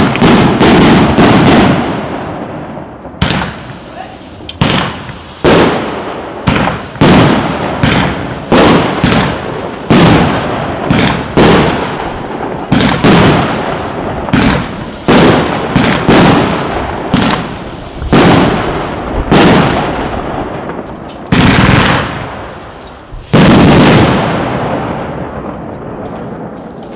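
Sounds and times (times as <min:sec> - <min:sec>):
firework cake firing bursts: 0:00.0 - 0:26.9.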